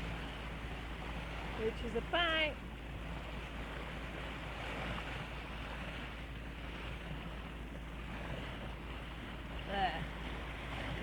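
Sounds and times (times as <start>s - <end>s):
boat engine drone: 0.0s - 11.0s
water rushing along hull: 0.0s - 11.0s.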